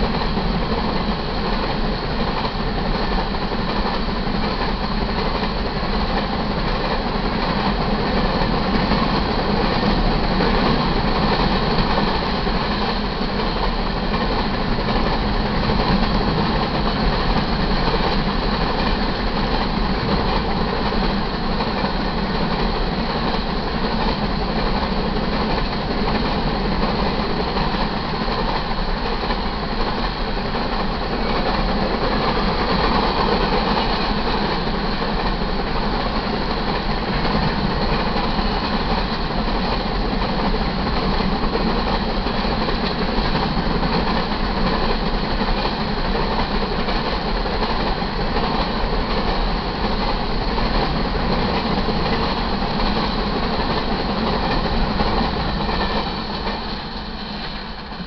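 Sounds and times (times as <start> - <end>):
steel wheels clattering on rails: 0.0 - 58.0.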